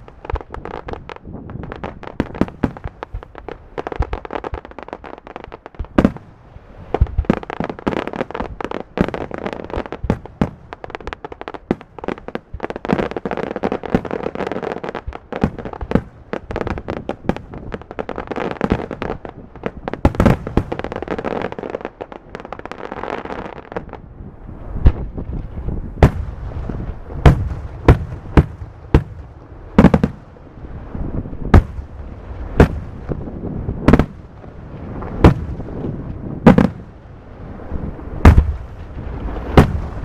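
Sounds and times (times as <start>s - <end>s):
loud firework bangs: 0.0s - 4.8s, 5.7s - 14.4s, 15.1s - 21.5s, 24.6s - 40.0s
fireworks bursting and crackling: 0.0s - 40.0s.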